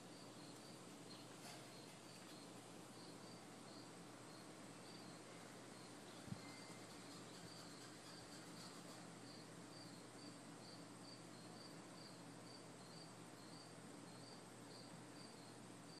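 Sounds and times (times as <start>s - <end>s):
cricket chirping: 0.0s - 16.0s
faint low hum: 0.0s - 16.0s.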